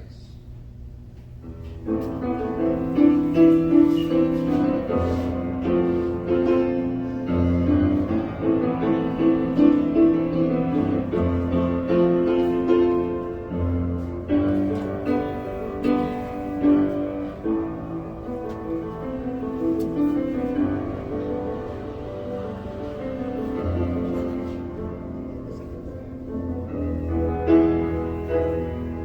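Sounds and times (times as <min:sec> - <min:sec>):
keyboard playing slow melody: 0:01.6 - 0:29.0.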